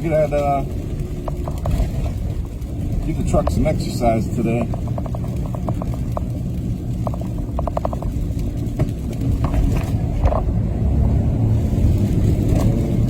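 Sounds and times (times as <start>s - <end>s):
truck engine and tyres rumbling: 0.0s - 13.0s.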